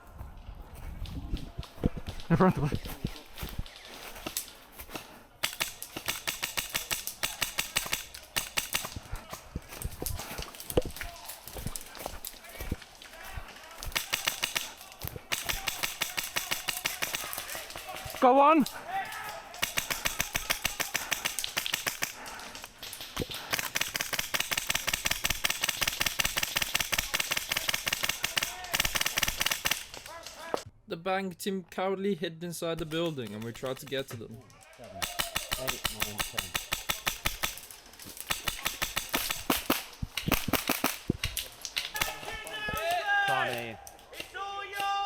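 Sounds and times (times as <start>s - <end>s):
airsoft guns firing: 2.6s - 30.6s, 35.0s - 43.5s.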